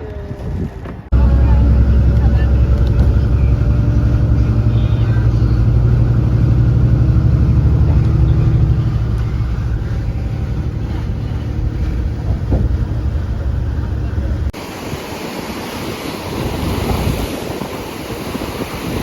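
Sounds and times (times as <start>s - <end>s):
boat engine droning: 1.0s - 19.0s.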